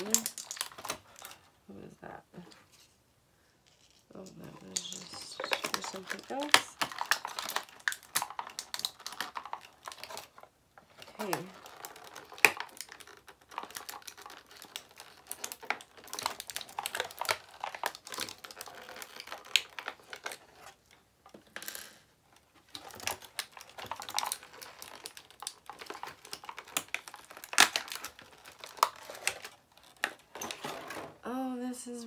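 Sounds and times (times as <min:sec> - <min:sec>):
plastic packaging crinkling: 0:00.0 - 0:01.5, 0:03.7 - 0:21.7, 0:22.3 - 0:31.2.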